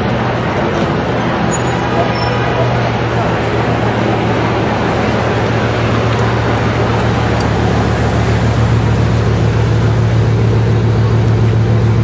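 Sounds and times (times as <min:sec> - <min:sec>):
car engine low drone: 0:00.0 - 0:12.0.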